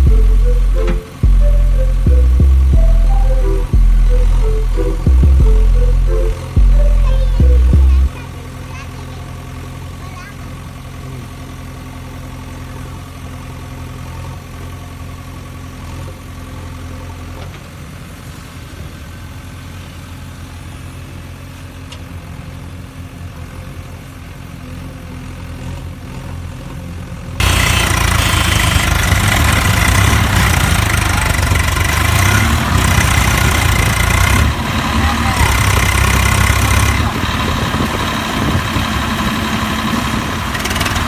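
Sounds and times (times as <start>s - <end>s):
loud harsh engine sound: 0.0s - 41.0s
tractor engine idling: 0.0s - 41.0s.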